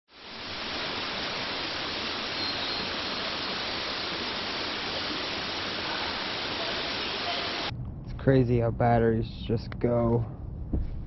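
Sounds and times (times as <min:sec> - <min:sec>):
steady rushing noise: 0:00.1 - 0:11.0.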